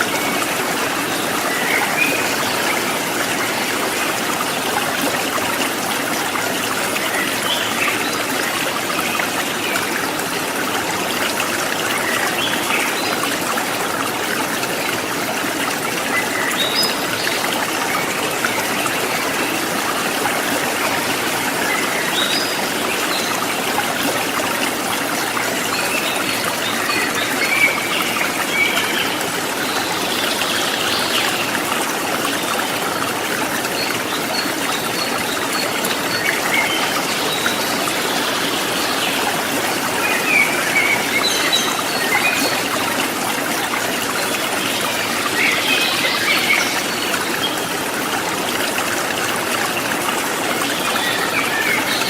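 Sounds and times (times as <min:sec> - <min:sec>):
river water flowing over rocks: 0:00.0 - 0:52.0.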